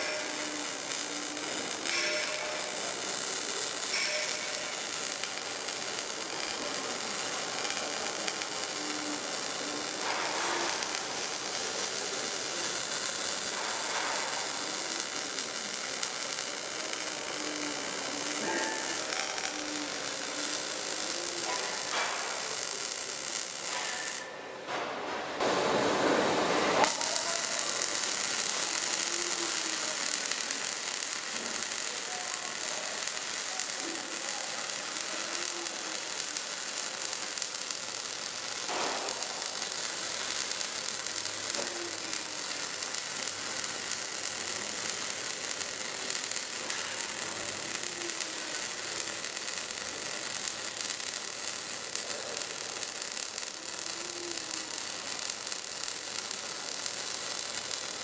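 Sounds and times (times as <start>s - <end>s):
welding arc crackling hiss: 0.0s - 58.0s.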